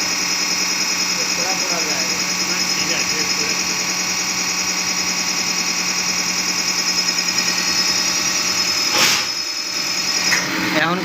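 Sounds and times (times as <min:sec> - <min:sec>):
fuel injection pump whining drone: 0:00.0 - 0:11.0.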